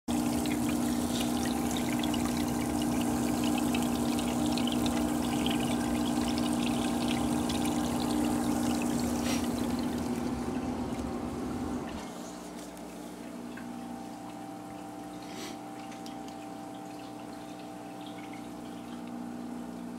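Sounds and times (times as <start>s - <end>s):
water pouring and trickling: 0.1s - 12.2s, 13.2s - 19.9s
low pump hum: 0.1s - 19.9s.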